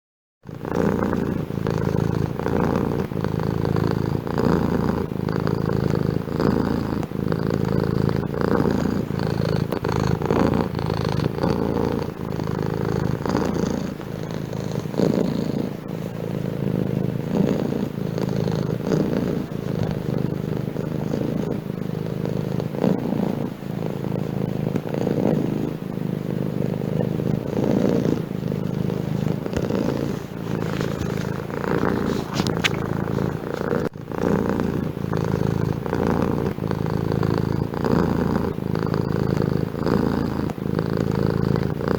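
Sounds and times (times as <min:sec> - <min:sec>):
cat purring: 0:00.4 - 0:41.9.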